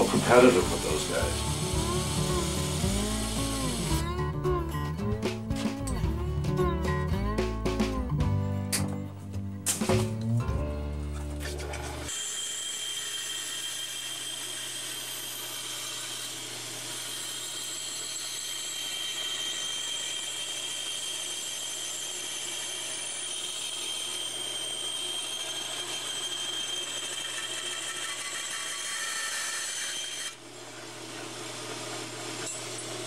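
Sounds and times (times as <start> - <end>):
bandsaw whining: 0.0 - 6.2, 11.3 - 33.0.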